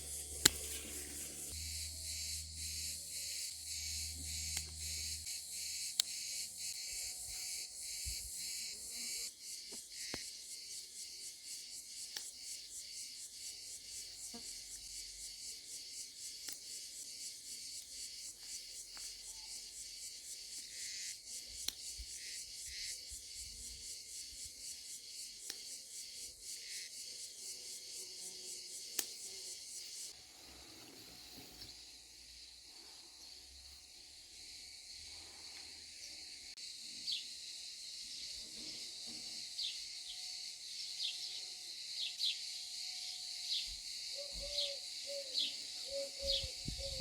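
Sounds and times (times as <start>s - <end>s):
insects chirping: 0.0s - 47.0s.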